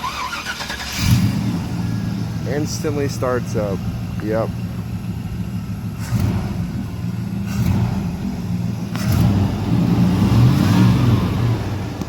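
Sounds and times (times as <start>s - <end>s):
truck engine running and revving: 0.0s - 12.0s.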